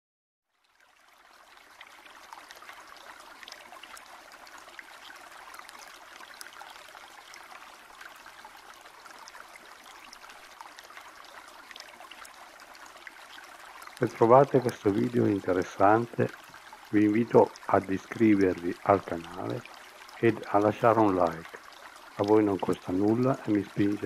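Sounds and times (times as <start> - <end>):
water trickling and babbling: 0.5 - 24.0.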